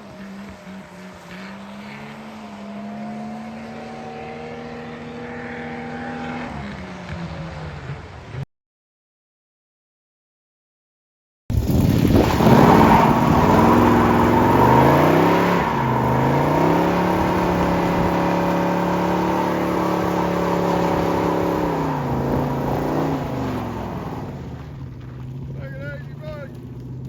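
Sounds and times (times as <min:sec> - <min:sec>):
vehicle engine revving: 0:00.0 - 0:08.4, 0:11.7 - 0:27.0.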